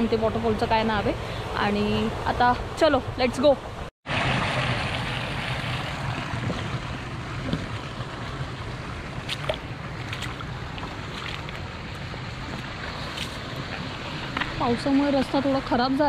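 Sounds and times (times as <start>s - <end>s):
flowing water rushing: 0.0s - 16.0s
wind rumbling on microphone: 0.0s - 16.0s.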